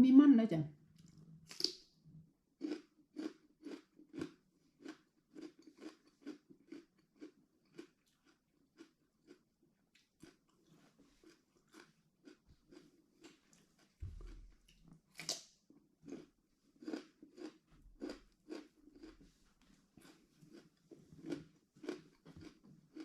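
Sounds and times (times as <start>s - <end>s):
person chewing crunchy food: 0.9s - 1.8s, 2.6s - 23.0s.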